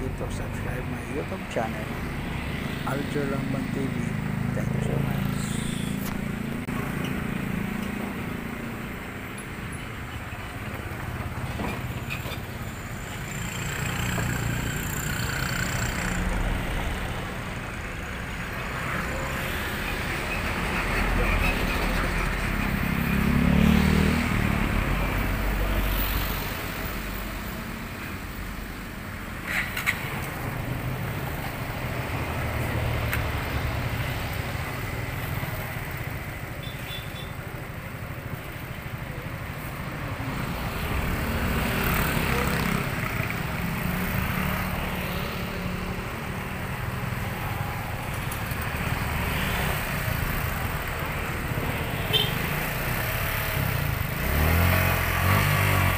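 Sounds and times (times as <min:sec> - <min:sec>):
vehicles passing: 0:00.0 - 0:55.9.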